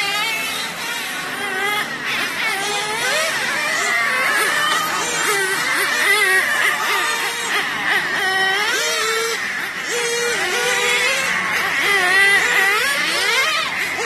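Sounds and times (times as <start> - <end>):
nitro engine high-pitched whine: 0.0 - 14.0.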